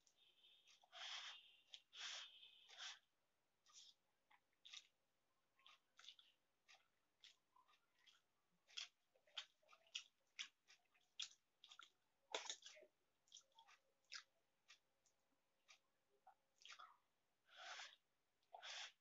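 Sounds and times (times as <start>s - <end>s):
chewing and lip smacks: 3.6s - 19.0s.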